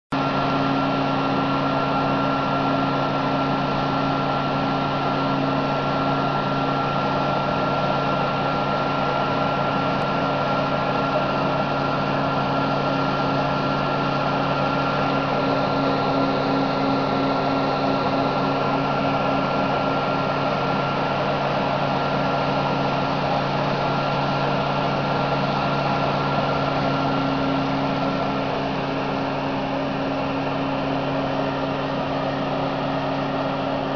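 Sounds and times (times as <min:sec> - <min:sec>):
spraying machine hum and whine: 0:00.2 - 0:33.9.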